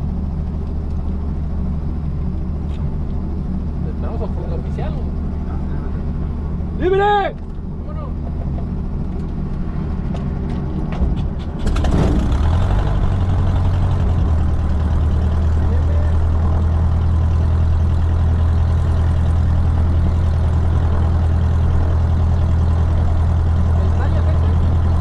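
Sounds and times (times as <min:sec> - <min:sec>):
aircraft engine cranking and running: 0:00.0 - 0:25.0.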